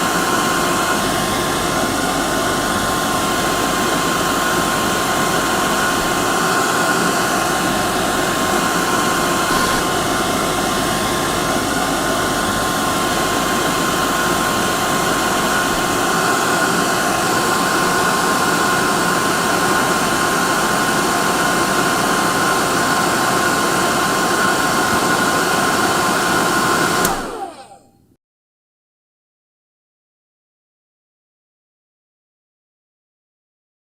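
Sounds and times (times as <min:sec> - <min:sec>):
hair dryer running: 0:00.0 - 0:28.1.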